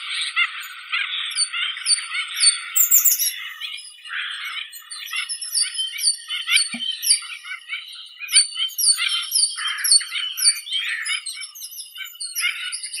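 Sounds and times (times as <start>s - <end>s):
small birds singing and chirping: 0.0s - 13.0s.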